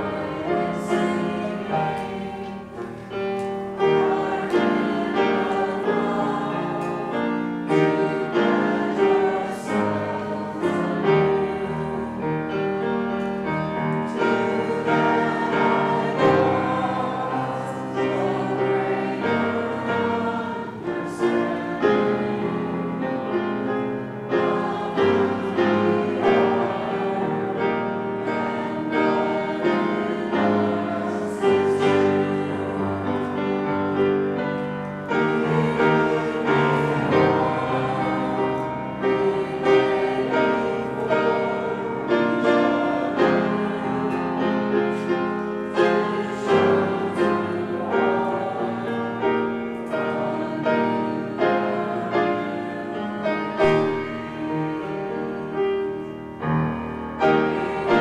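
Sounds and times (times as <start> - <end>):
congregation singing: 0.0 - 58.0
grand piano playing a hymn: 0.0 - 58.0.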